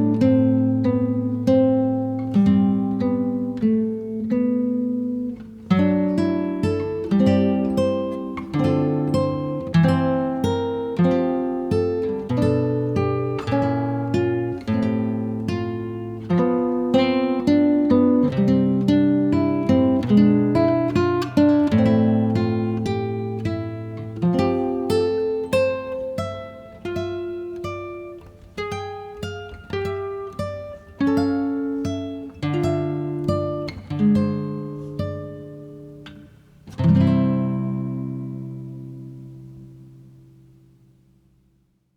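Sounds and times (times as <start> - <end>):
acoustic guitar playing: 0.0 - 41.7.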